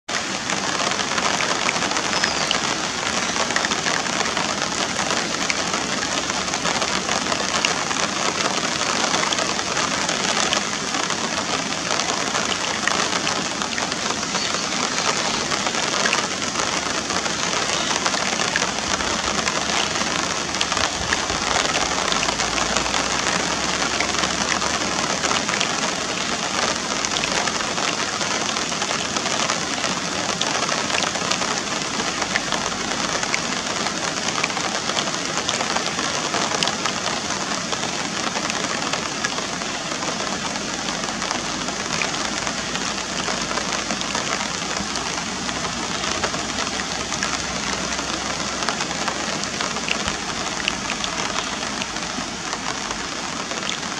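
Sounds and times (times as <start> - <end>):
river rushing: 0.1 - 53.9.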